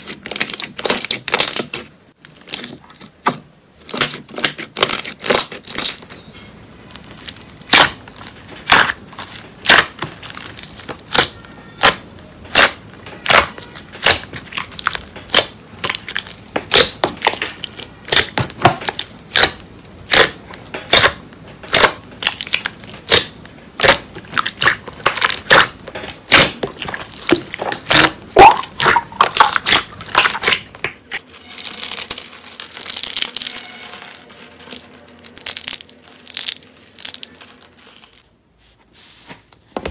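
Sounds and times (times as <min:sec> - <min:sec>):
slime popping and crackling: 0:00.0 - 0:06.2, 0:06.9 - 0:38.2.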